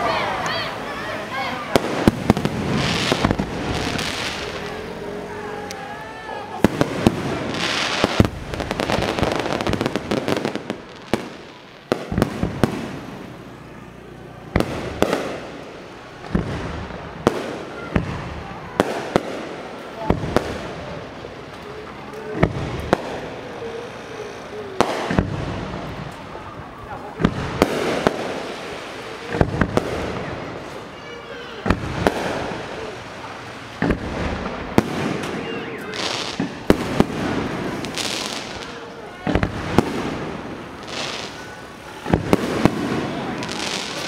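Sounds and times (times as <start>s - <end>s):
fireworks sharp bangs: 0.0s - 5.7s, 6.4s - 44.0s
fireworks crackling: 0.0s - 44.0s.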